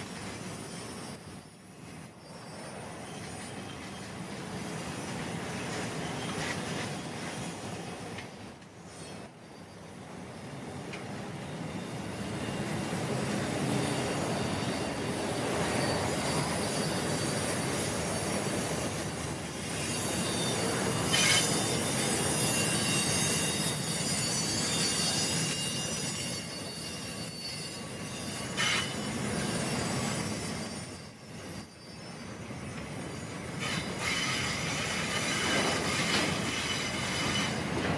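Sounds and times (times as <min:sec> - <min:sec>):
high wheel squeal: 0:00.0 - 0:37.9
steel wheels rumbling on rail: 0:00.0 - 0:37.9.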